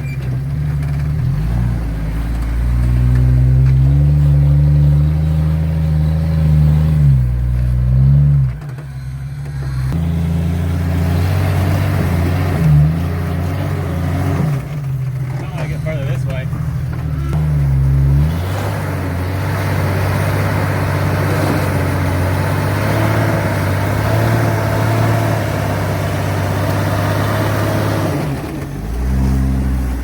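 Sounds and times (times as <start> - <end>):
engine revving under load: 0.0 - 30.0.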